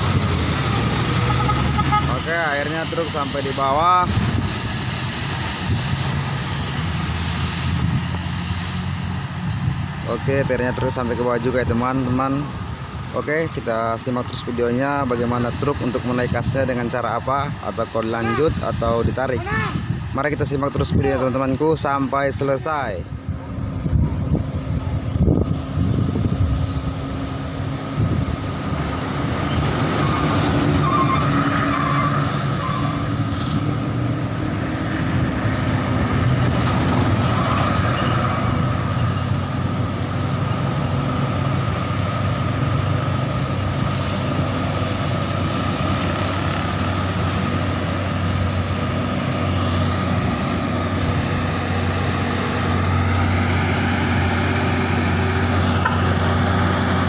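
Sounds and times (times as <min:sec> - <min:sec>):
truck diesel engines droning: 0:00.0 - 0:57.0.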